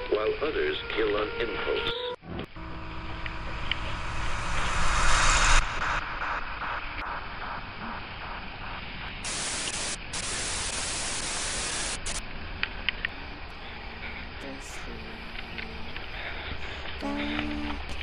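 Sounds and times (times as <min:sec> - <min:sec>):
harsh static hiss: 0:02.6 - 0:18.0.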